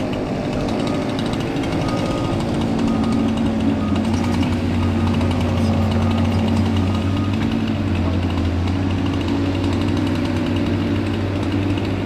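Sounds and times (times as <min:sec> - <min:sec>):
excavator diesel engine drone: 0:00.0 - 0:12.0.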